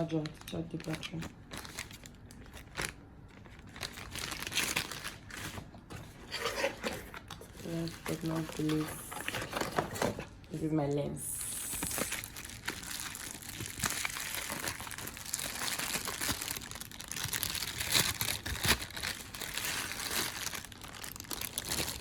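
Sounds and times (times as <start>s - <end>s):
packaging crinkling and rustling: 0.0s - 10.3s, 11.4s - 22.0s.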